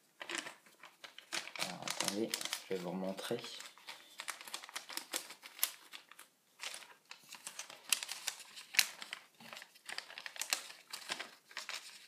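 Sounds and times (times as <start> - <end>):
paper crinkling and rustling: 0.2 - 12.0.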